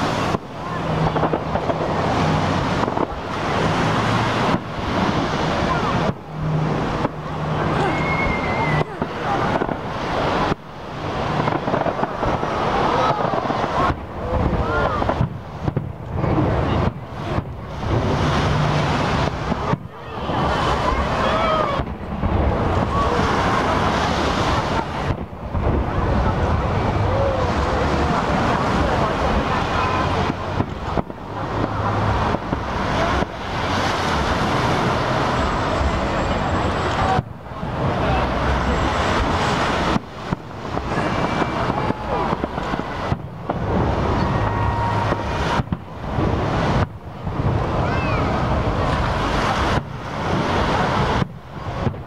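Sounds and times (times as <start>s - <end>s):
fireworks bursting and crackling: 0.0s - 52.0s
steady wash of noise: 0.0s - 52.0s.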